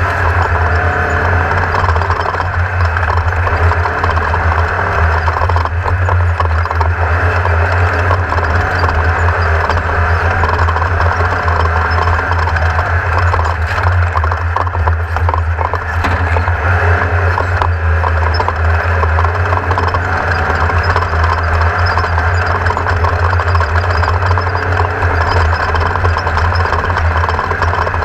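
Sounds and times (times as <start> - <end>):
race car engine running: 0.0 - 28.0
rattles and knocks: 0.0 - 28.0.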